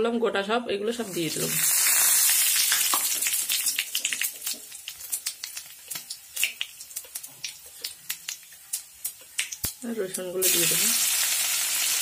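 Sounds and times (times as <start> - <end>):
spices crackling in hot oil: 1.0 - 12.0.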